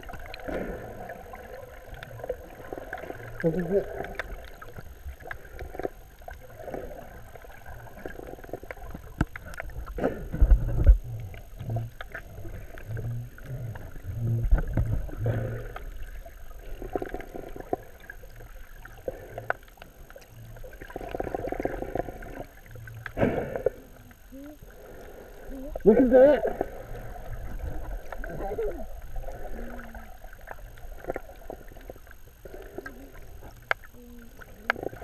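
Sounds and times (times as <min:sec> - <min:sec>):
muffled underwater swimming splashes: 0:00.0 - 0:35.0
pulsing low hum: 0:00.0 - 0:35.0.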